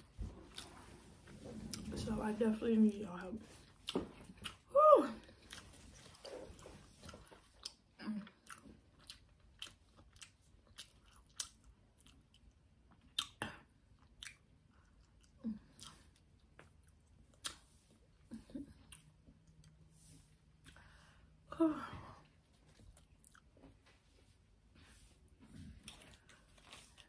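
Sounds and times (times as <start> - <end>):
person chewing food: 0.0 - 1.9, 3.6 - 21.4, 22.3 - 27.0.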